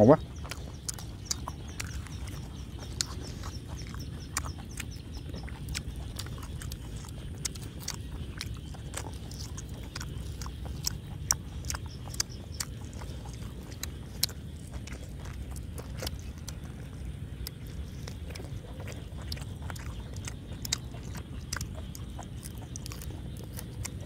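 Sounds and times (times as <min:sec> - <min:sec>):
chewing and wet mouth clicks: 0:00.0 - 0:24.0
low steady rumble: 0:00.0 - 0:24.0.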